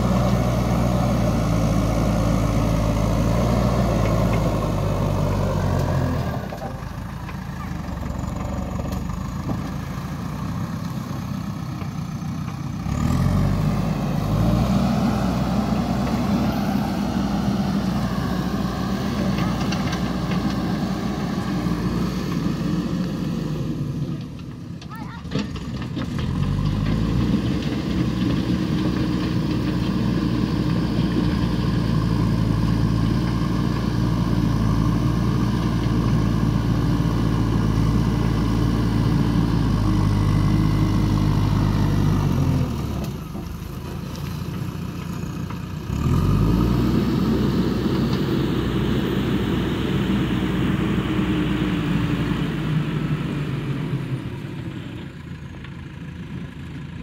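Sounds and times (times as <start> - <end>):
diesel engine revving: 0.0 - 24.6, 25.3 - 57.0.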